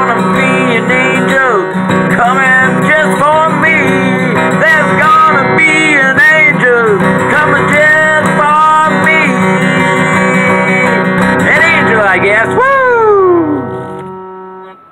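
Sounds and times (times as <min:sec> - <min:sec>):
man singing: 0:00.0 - 0:13.6
strummed acoustic guitar: 0:00.0 - 0:14.9.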